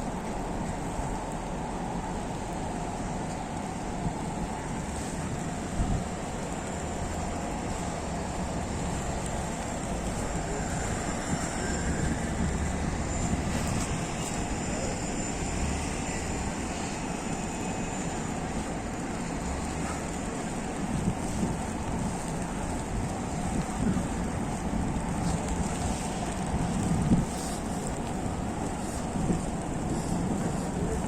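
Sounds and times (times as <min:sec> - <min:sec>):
low vehicle hum: 0:00.0 - 0:31.0
snowstorm rushing noise: 0:00.0 - 0:31.0.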